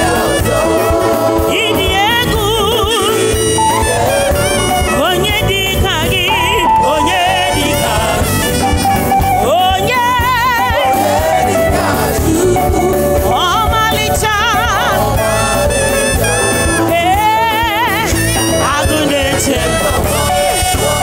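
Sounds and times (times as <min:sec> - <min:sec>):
instrumental accompaniment: 0:00.0 - 0:21.0
person singing with vibrato: 0:00.0 - 0:21.0.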